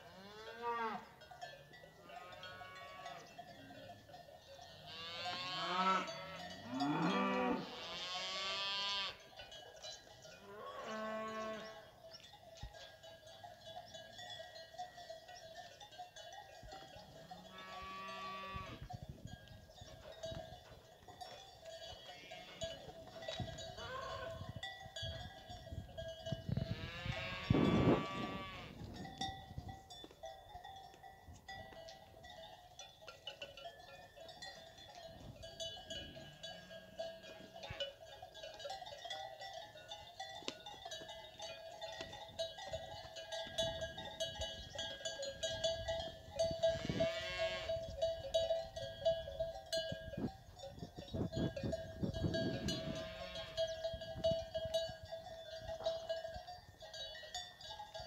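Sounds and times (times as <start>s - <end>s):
cowbells clanking: 0.0s - 58.0s.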